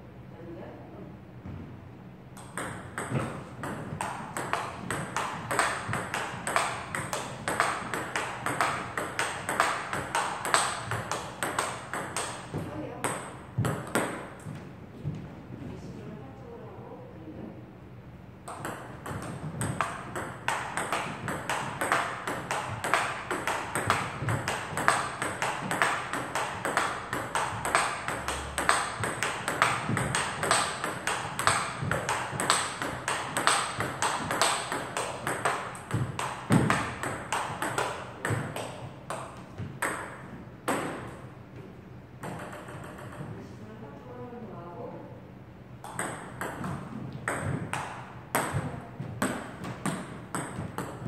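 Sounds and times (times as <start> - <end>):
ping pong ball clicking on paddles: 2.4 - 14.5, 18.4 - 41.2, 42.2 - 43.4, 45.8 - 51.0
ball bouncing on table: 2.4 - 15.2, 18.4 - 43.4, 45.8 - 51.0.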